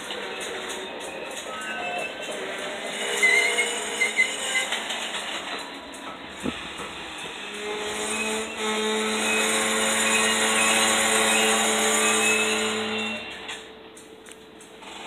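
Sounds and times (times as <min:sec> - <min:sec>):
metallic wheel squeal: 0:00.0 - 0:13.7
train rolling noise: 0:00.0 - 0:15.0.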